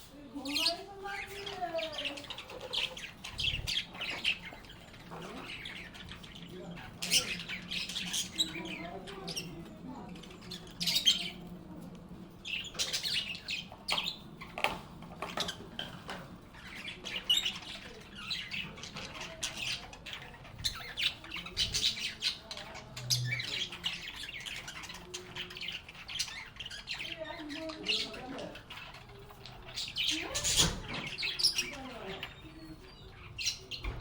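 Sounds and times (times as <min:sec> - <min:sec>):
lovebirds chirping and squawking: 0:00.0 - 0:34.0.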